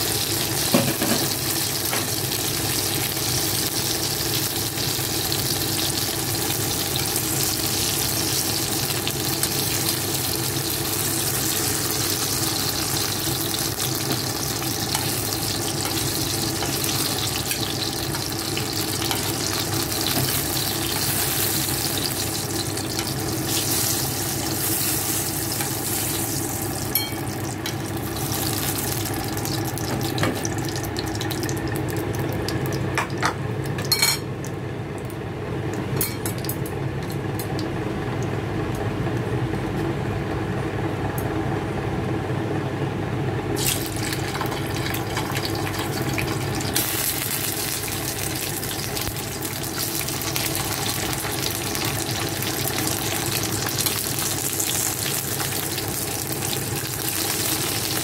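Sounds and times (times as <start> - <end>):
oil sizzling in frying pan: 0.0 - 34.4, 43.5 - 58.0.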